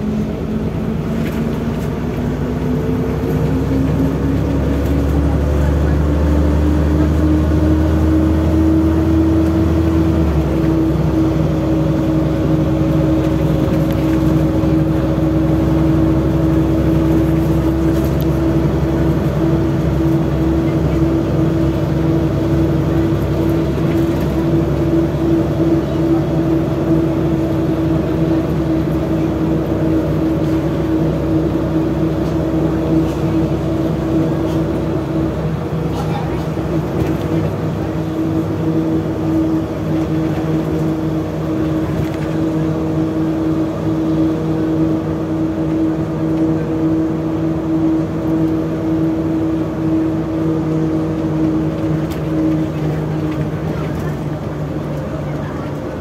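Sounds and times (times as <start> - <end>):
bus engine at speed: 0.0 - 56.0
road noise: 0.0 - 56.0.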